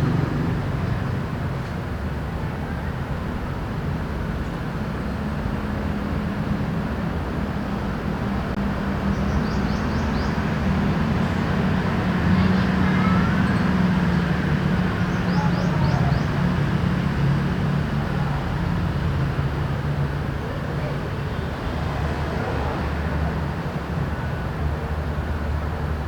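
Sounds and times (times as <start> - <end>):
city traffic engine hum: 0.0 - 26.0.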